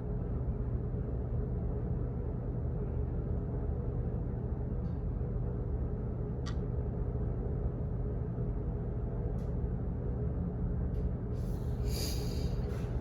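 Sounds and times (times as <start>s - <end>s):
office rumble and hum: 0.0s - 13.0s.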